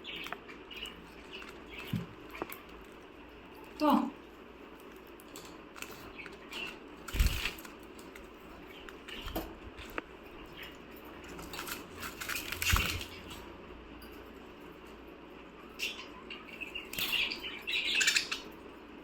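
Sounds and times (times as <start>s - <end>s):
budgies clicking and rustling: 0.0s - 19.0s.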